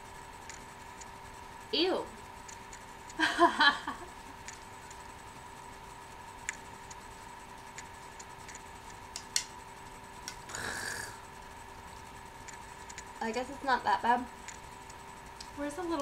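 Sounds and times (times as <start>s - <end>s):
faint electronic whine: 0.0s - 16.0s.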